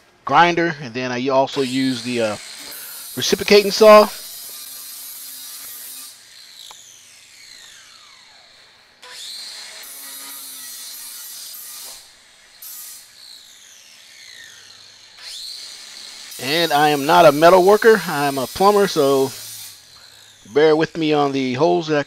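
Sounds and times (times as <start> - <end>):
angle grinder cutting steel: 1.5 - 22.0.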